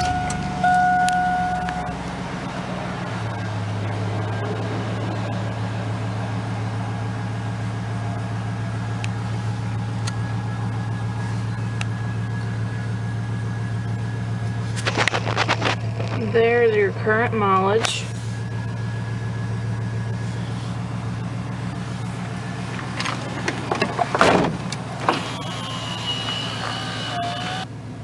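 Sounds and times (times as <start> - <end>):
pickup truck engine idling: 0.0 - 28.0.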